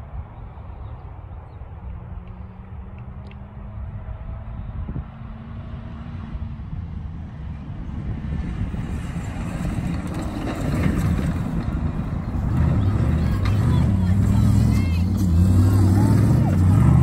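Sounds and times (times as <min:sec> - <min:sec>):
buggy engine running hard: 0:00.0 - 0:17.0.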